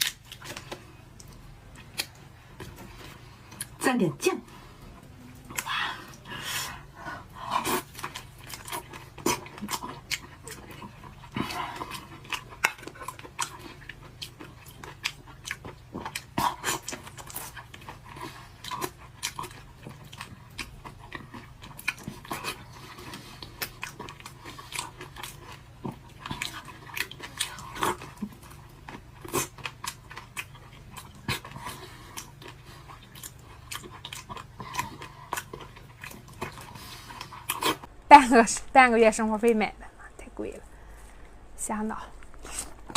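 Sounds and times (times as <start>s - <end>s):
sucking and chewing: 0.0s - 3.8s, 4.6s - 38.0s, 42.1s - 42.9s
steady low hum: 0.0s - 42.9s.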